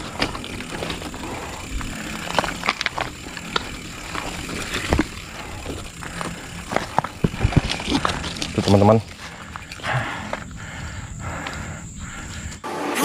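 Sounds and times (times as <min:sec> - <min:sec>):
tyres crunching over rocks: 0:00.0 - 0:11.7
bike clicks and rattles: 0:00.0 - 0:12.6.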